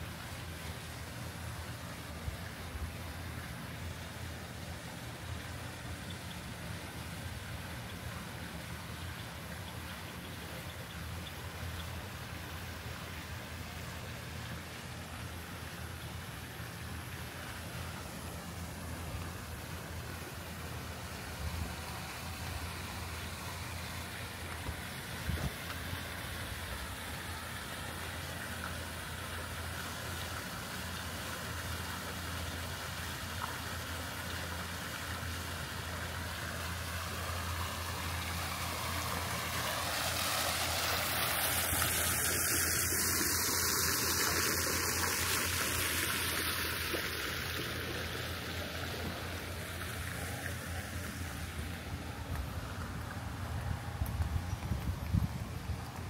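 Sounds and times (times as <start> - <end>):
fountain splashing: 0.0 - 56.0.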